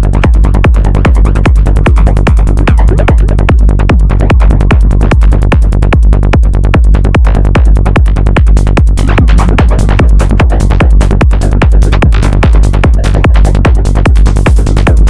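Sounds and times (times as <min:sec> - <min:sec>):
deep pulsing synth bass: 0:00.0 - 0:15.0
fast sharp electronic hits: 0:00.0 - 0:15.0.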